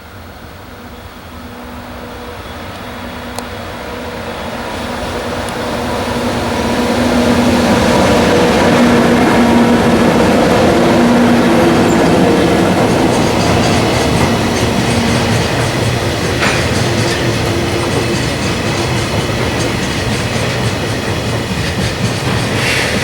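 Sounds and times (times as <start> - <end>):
freight train approaching: 0.0 - 23.0
locomotive tonal hum: 0.3 - 23.0.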